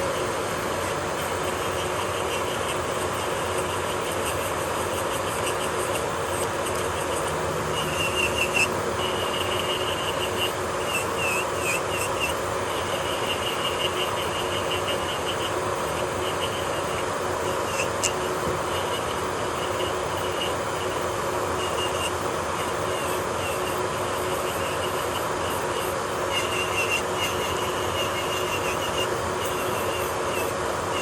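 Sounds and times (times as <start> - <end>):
electric nail drill grinding: 0.0 - 31.0.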